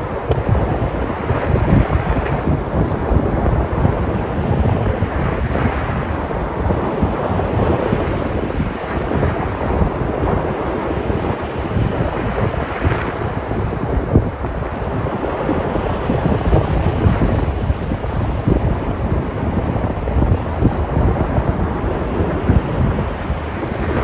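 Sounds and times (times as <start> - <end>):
sea surf breaking on shore: 0.0 - 24.0
wind buffeting microphone: 0.0 - 24.0.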